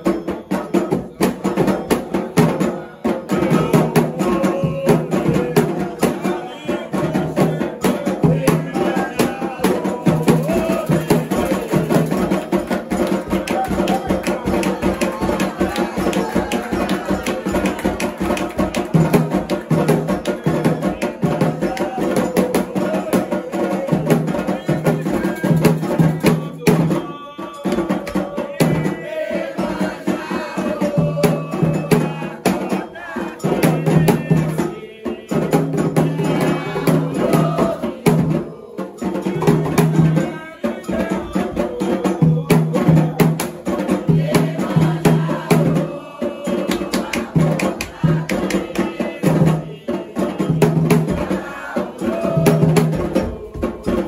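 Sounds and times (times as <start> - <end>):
hand drums beating: 0.0 - 54.0
voices singing: 0.0 - 54.0.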